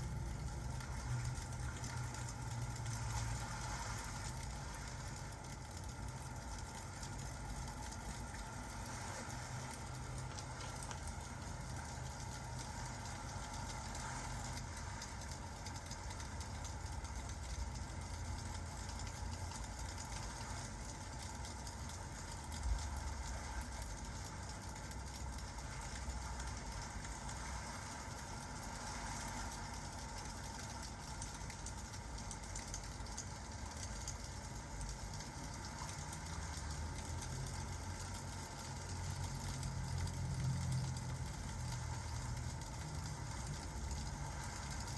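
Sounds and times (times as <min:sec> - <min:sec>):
crackling fireplace: 0:00.0 - 0:44.9
steady rain: 0:00.0 - 0:44.9.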